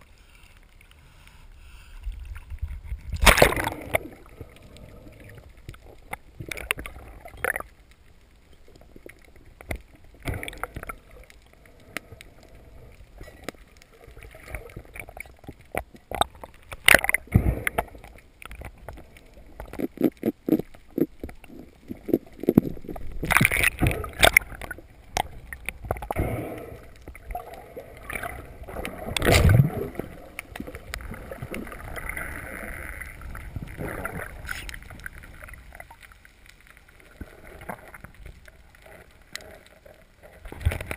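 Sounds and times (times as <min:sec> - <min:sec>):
muffled underwater movement: 0:00.0 - 0:40.9.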